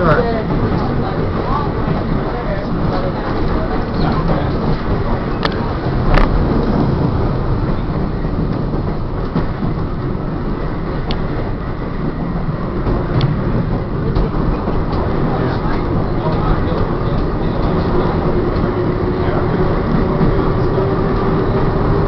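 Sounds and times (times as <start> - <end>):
trolley wheels rumbling on track: 0.0 - 22.0.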